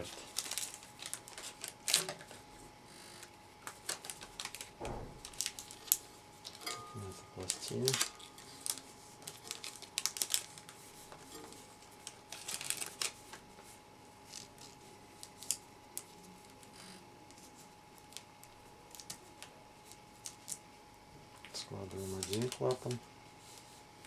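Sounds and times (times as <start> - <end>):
packaging film crinkling: 0.0 - 2.5, 3.2 - 16.7, 17.3 - 20.7, 21.4 - 23.8.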